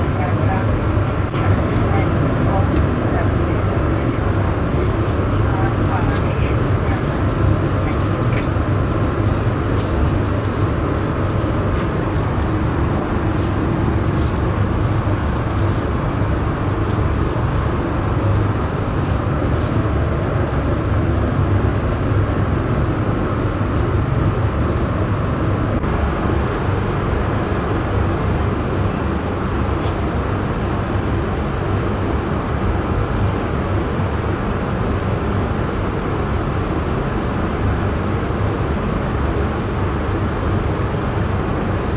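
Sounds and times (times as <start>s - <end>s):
airliner cabin air rush: 0.0s - 41.9s
engine drone: 0.0s - 41.9s.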